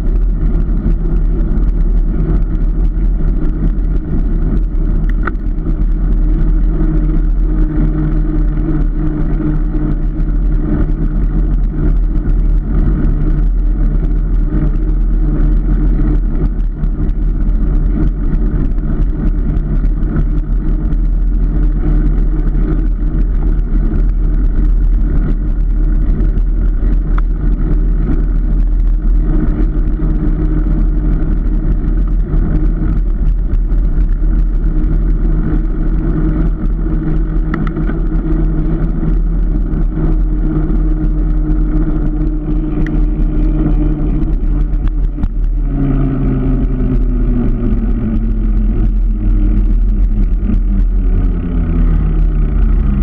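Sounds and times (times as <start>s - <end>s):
car engine hum: 0.0s - 53.0s
road rumble: 0.0s - 53.0s.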